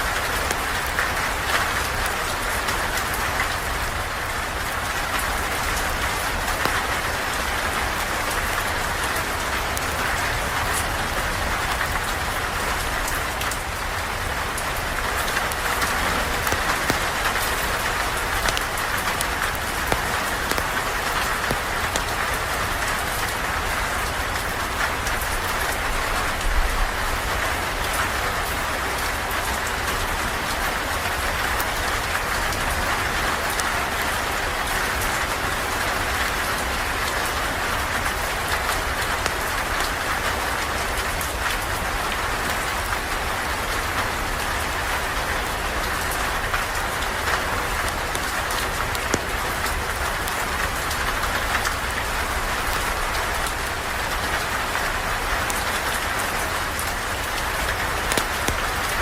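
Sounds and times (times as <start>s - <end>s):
sharp ticks of raindrops: 0.0s - 59.0s
steady rain falling: 0.0s - 59.0s.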